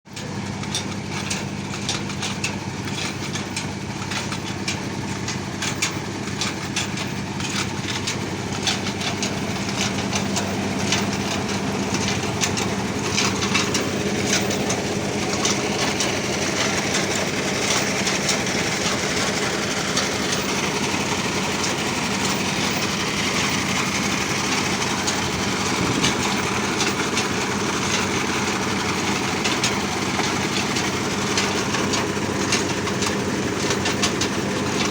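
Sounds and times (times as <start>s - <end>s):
drilling rig humming: 0.1s - 34.9s.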